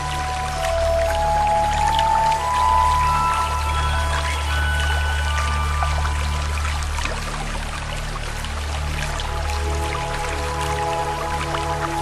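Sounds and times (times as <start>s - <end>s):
slow ambient music: 0.0s - 12.0s
water dripping: 0.0s - 12.0s
waterfall rushing: 0.0s - 12.0s.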